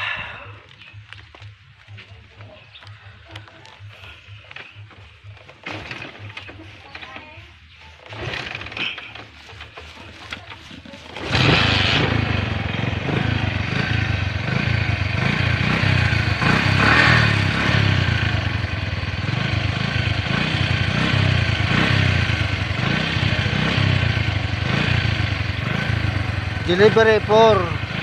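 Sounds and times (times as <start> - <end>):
small motorcycle engine rumbling: 0.0 - 28.0.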